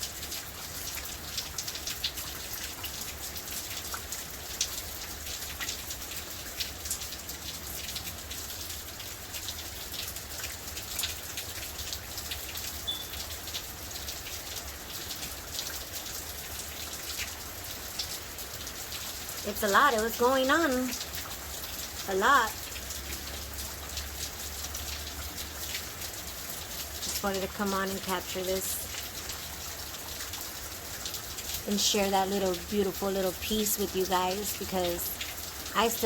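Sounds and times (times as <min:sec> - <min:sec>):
raindrops ticking close by: 0:00.0 - 0:36.0
steady rain falling: 0:00.0 - 0:36.0.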